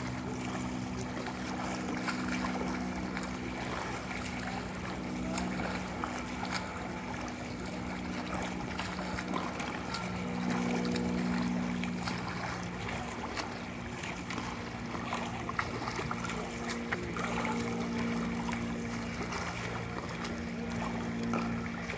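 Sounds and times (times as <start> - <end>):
steady low hum: 0.0 - 21.9
swimmer splashing water: 0.0 - 21.9.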